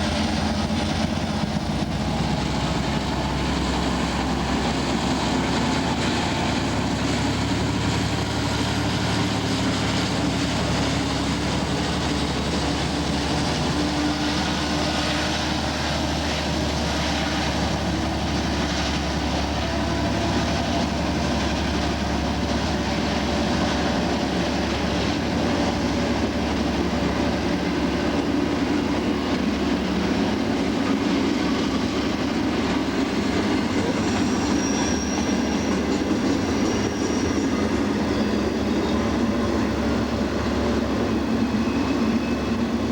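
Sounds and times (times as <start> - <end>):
locomotive engine droning: 0.0 - 42.9.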